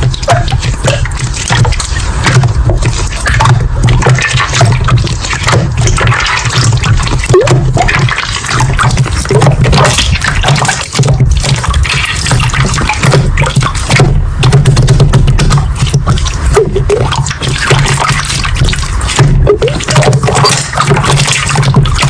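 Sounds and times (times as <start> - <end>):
slime squelching: 0.0 - 22.0.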